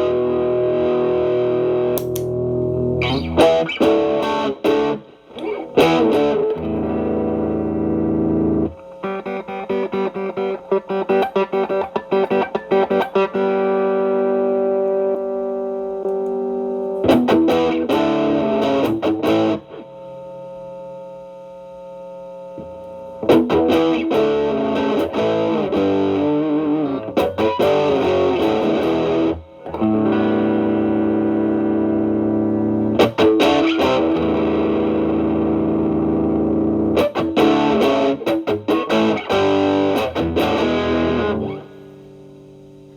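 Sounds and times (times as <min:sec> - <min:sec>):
overdriven electric guitar: 0:00.0 - 0:20.8, 0:22.6 - 0:42.9.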